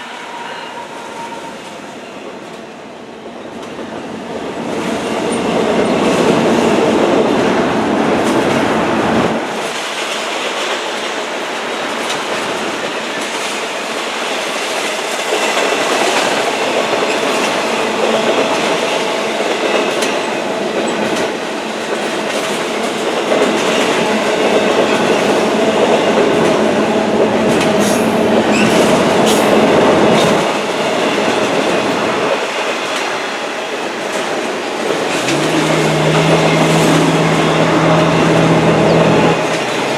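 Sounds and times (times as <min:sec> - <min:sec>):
train wheels clattering on rails: 0:03.3 - 0:39.9.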